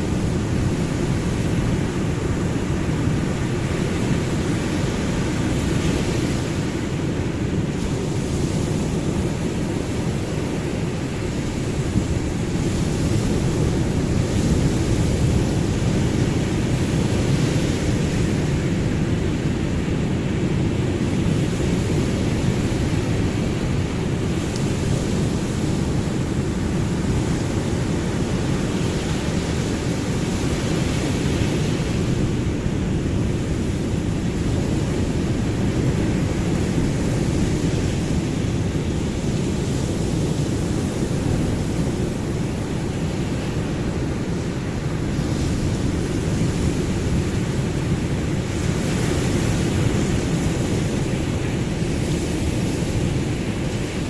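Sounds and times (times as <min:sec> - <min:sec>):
ocean surf rushing: 0:00.0 - 0:54.0.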